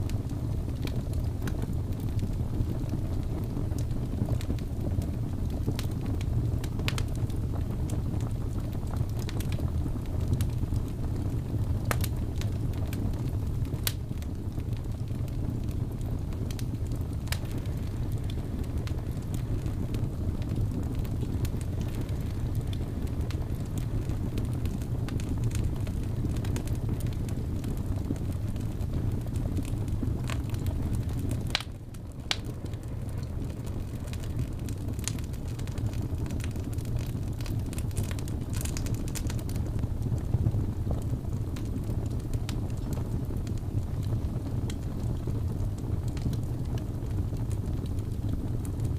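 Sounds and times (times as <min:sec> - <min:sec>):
fire crackling and popping: 0:00.0 - 0:48.9
fire rumbling: 0:00.0 - 0:48.9.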